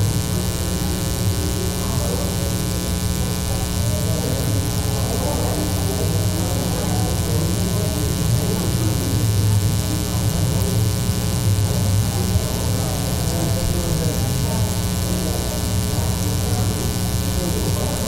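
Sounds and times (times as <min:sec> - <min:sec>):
buzzy electrical mains hum: 0:00.0 - 0:18.0.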